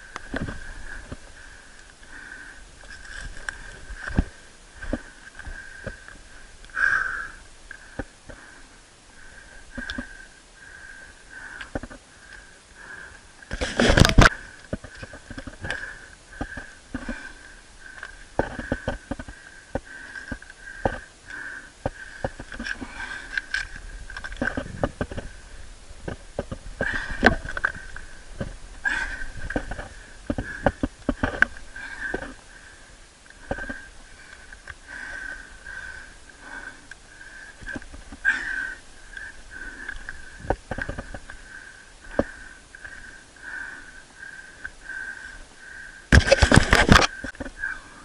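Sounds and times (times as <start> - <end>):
steady high-pitched hum: 0.0 - 48.0.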